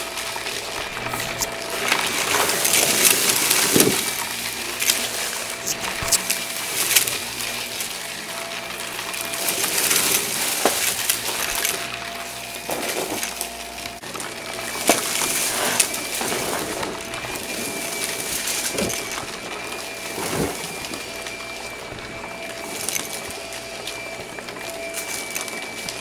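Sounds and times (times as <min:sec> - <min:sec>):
vacuum cleaner motor whine: 0:00.0 - 0:26.0.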